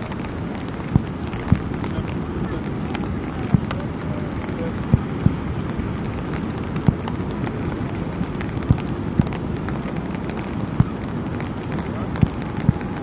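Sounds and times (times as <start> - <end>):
background noise: 0.0 - 13.0
faint fireworks crackling: 0.0 - 13.0
fireworks booming: 0.0 - 13.0.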